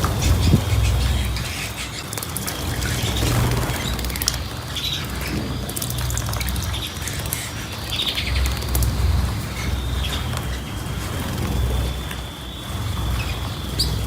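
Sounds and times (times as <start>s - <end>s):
cage birds chirping: 0.0s - 14.0s
steady low rumble: 0.0s - 14.0s.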